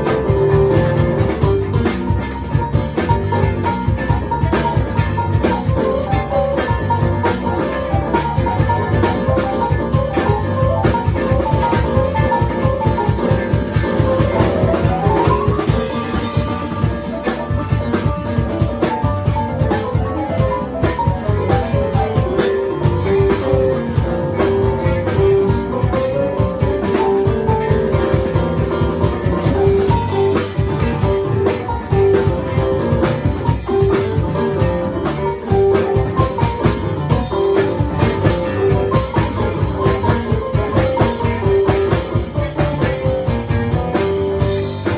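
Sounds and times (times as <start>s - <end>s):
fast drum kit beat: 0.0s - 44.9s
live band playing instrumental: 0.0s - 44.9s.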